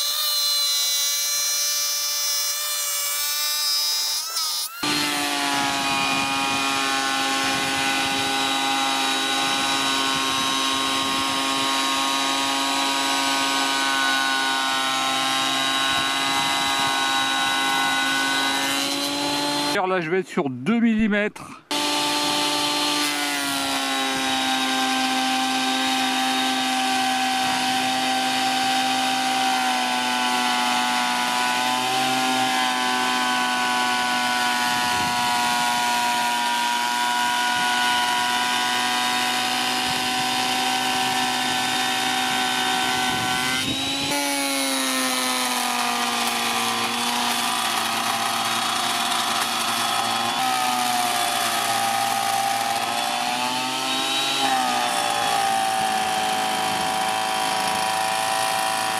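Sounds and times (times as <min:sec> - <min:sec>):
planer cutting wood: 0:00.0 - 0:19.9, 0:21.7 - 0:58.9.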